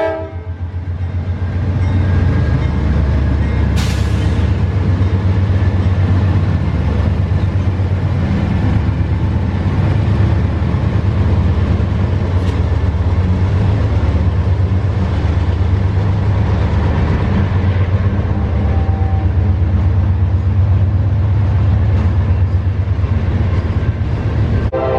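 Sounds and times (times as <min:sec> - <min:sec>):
train engine rumble: 0:00.0 - 0:24.9.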